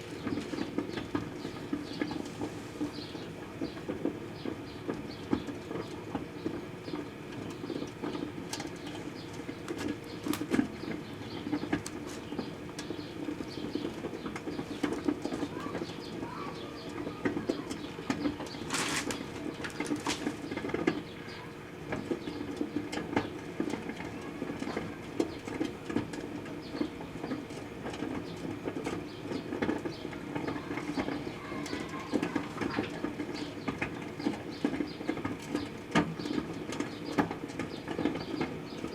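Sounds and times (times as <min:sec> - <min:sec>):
microwave oven humming: 0:00.0 - 0:38.9.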